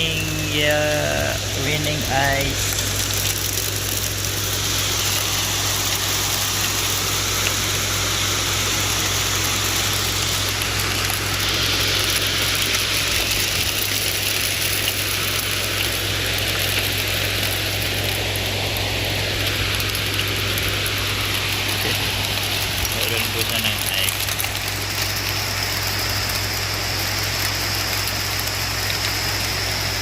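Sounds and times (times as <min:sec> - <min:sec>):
heavy hail and rain: 0:00.0 - 0:30.0
steady low hum: 0:00.0 - 0:30.0.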